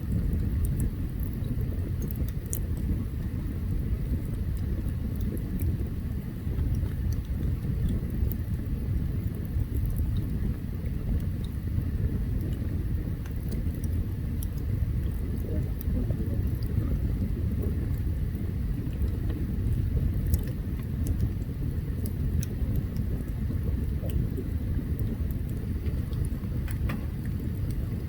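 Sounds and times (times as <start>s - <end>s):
campfire crackles and pops: 0.0s - 28.0s
low fire rumble: 0.0s - 28.0s.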